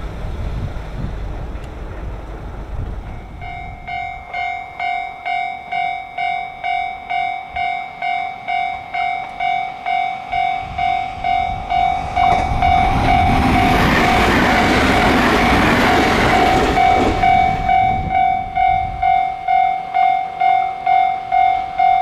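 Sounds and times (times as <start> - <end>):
approaching electric train: 0.0 - 22.0
level crossing bell ringing: 3.2 - 22.0.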